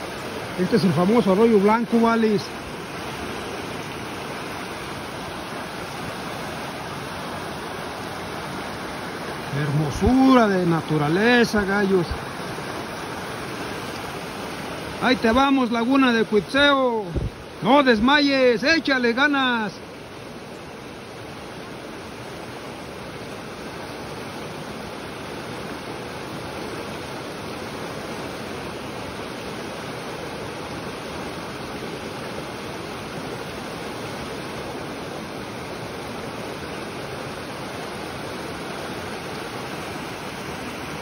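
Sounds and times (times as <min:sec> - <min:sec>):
creek rushing over rocks: 0:00.0 - 0:41.0.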